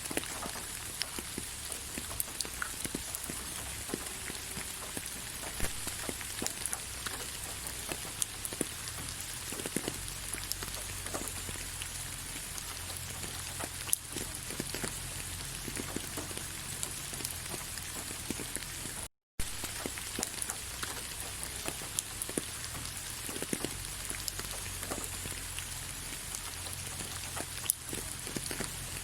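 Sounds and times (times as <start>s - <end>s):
rain falling on leaves: 0.0s - 29.0s.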